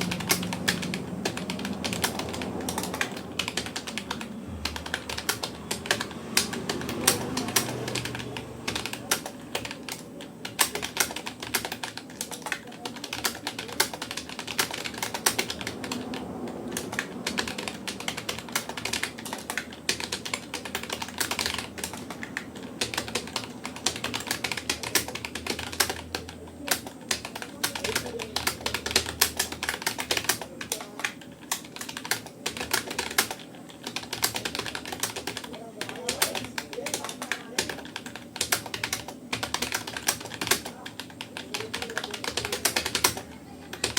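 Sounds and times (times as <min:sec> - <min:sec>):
fast keyboard typing: 0:00.0 - 0:43.9.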